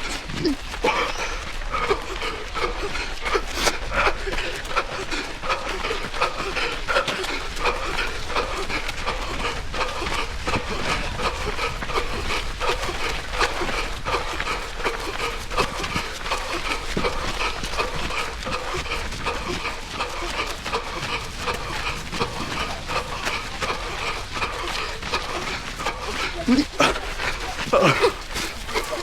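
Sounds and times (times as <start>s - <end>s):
heavy panting breaths: 0.0s - 29.0s.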